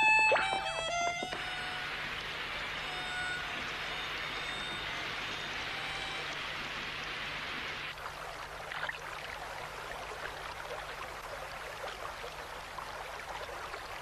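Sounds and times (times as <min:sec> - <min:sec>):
cartoon stream babbling: 0:00.0 - 0:14.0.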